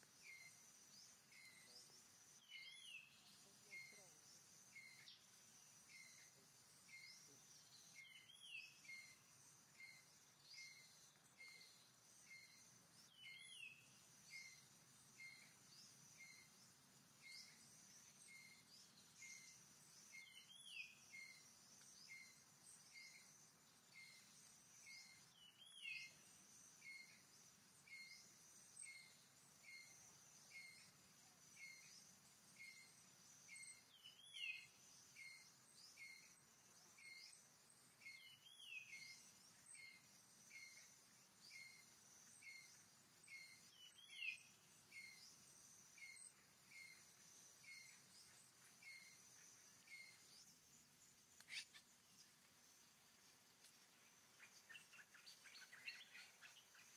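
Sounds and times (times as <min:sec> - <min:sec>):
bird chirping: 0:00.0 - 0:56.9
high insect drone: 0:00.0 - 0:56.9.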